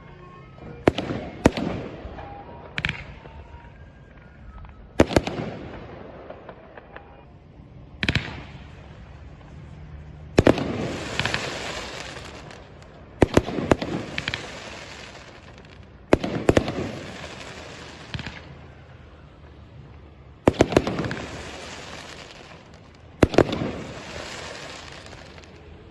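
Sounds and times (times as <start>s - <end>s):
fireworks bangs: 0.5s - 25.9s
fireworks crackle: 0.6s - 25.9s.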